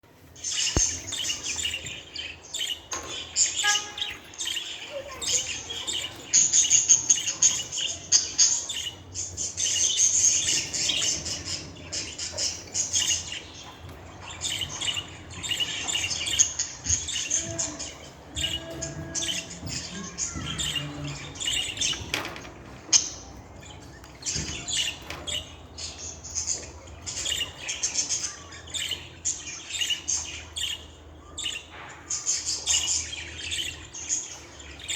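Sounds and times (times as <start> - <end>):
budgerigar chirping and chattering: 0.4 - 34.9.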